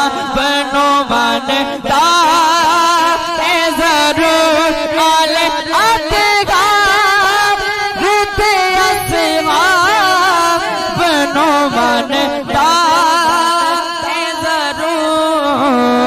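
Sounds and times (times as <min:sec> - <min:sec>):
man singing melismatic phrases: 0:00.0 - 0:16.0.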